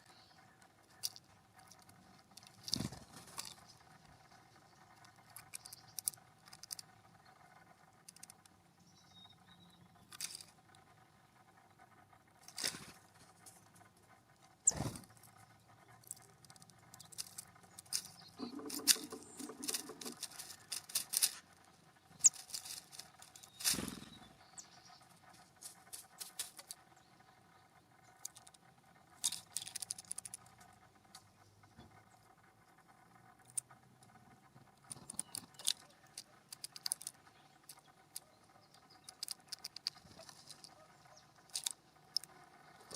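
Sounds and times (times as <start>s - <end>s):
birds pecking at feeder: 0.0s - 42.9s.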